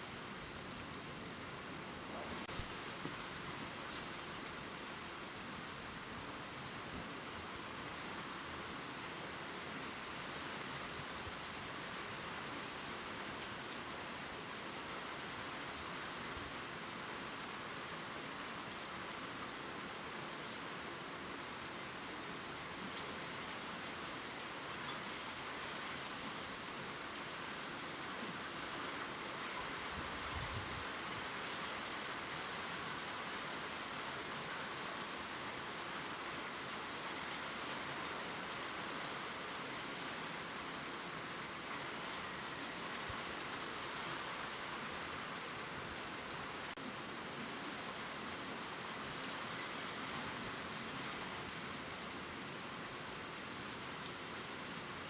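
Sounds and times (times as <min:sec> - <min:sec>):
gentle rain on leaves: 0:00.0 - 0:55.0.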